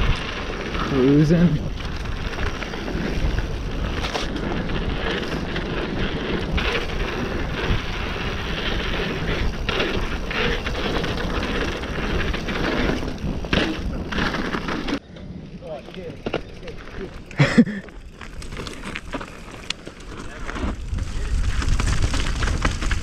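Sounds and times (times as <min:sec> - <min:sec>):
tyres rumbling on dirt: 0:00.0 - 0:15.0, 0:15.6 - 0:23.0
wind on microphone: 0:00.0 - 0:15.7, 0:20.2 - 0:23.0.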